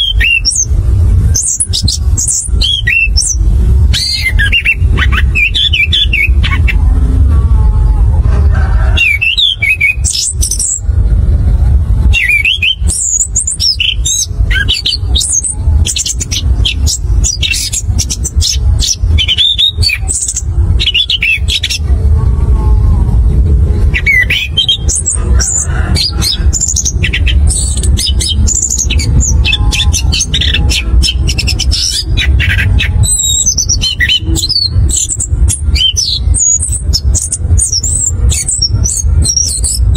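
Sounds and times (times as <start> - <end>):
thrush singing trills and whistles: 0.0 - 6.9, 9.0 - 10.9, 12.0 - 21.9, 23.8 - 39.9
low rumble: 0.0 - 39.9.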